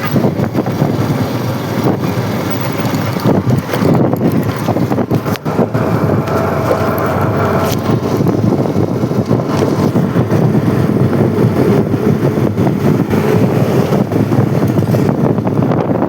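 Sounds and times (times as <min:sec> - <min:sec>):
heavy construction machinery rumble: 0:00.0 - 0:16.0.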